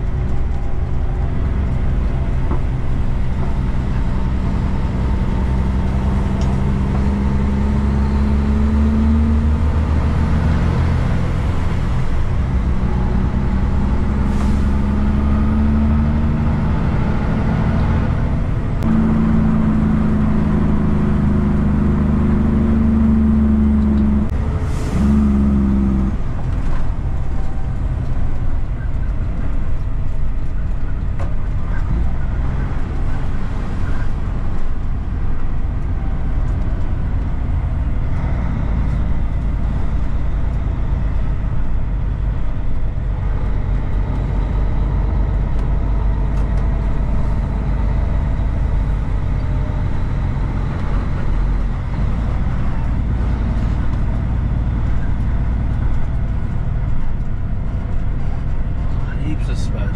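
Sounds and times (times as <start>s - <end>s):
truck diesel engine droning: 0.0s - 59.9s.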